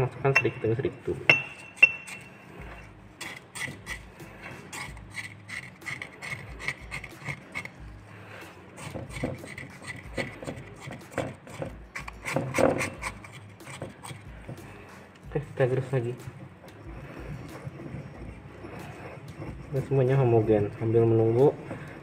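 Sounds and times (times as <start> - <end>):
pestle grinding in mortar: 0.3 - 14.8, 15.8 - 22.0.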